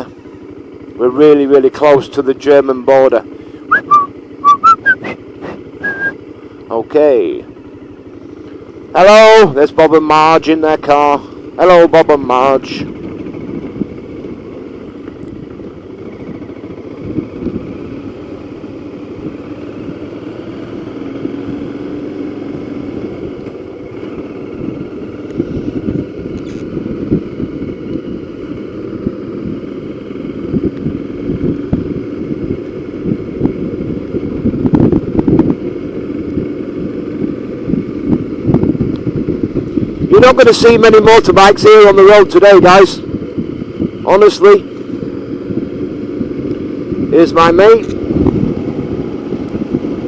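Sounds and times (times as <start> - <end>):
motorcycle engine rumbling: 0.0 - 50.0.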